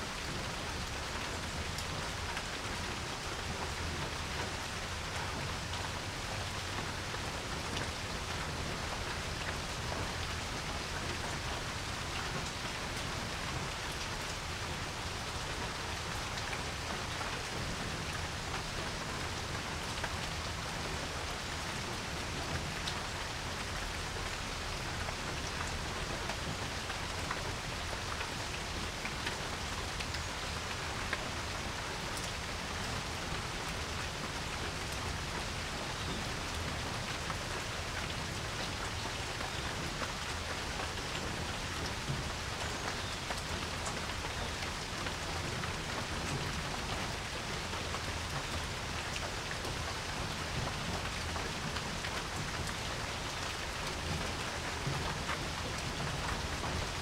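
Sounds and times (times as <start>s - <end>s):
rain falling on a porch: 0.0s - 57.0s.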